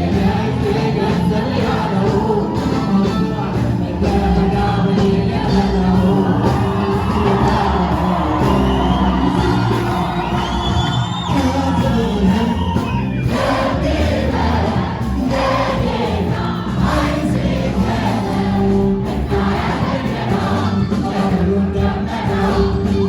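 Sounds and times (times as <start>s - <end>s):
choir singing a hymn: 0.0s - 23.0s
musical backing: 0.0s - 23.0s.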